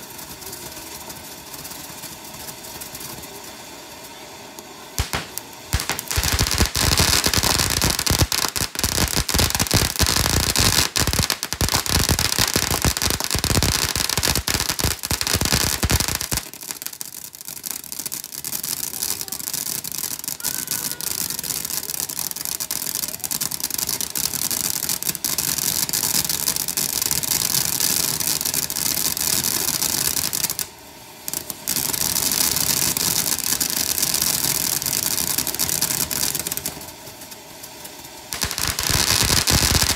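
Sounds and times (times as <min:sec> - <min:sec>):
firework crackling pops: 0:00.0 - 0:39.9
firework hissing: 0:00.0 - 0:39.9.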